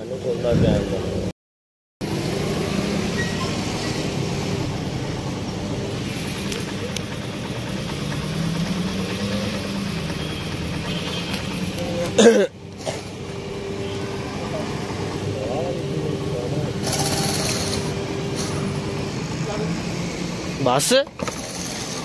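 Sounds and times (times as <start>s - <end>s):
vehicle engine humming: 2.0s - 22.0s.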